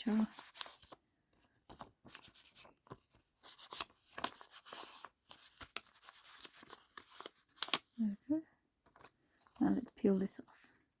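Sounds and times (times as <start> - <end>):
paper rustling: 0.0 - 8.0, 8.8 - 10.3.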